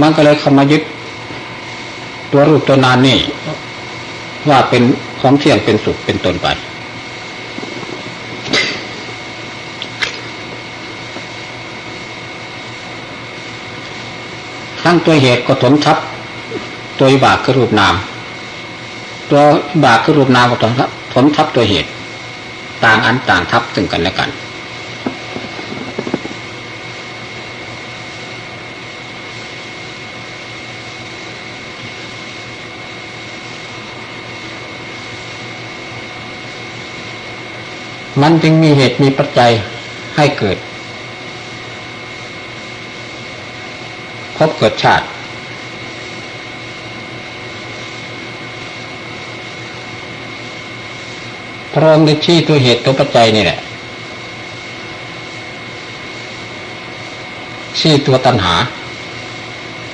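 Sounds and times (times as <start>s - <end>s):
faint high whine: 0.0s - 59.9s.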